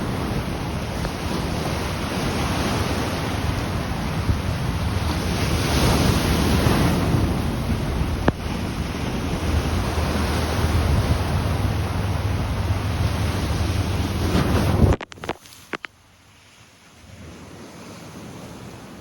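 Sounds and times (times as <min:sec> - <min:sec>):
wind buffeting microphone: 0:00.0 - 0:15.8
sea waves washing onto shore: 0:00.0 - 0:19.0.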